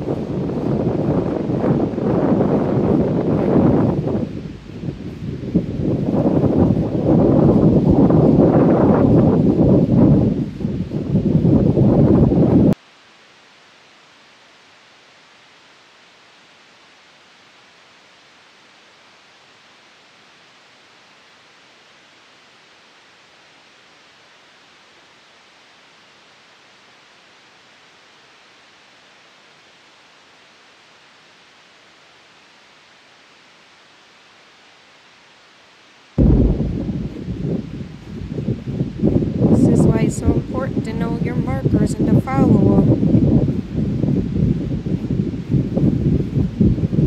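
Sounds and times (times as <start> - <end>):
faint steady hiss: 0.0 - 47.0.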